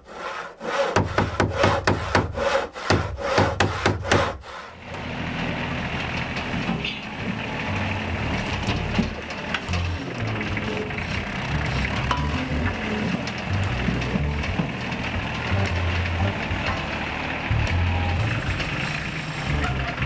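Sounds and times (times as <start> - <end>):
wood being sawn: 0.0 - 20.0.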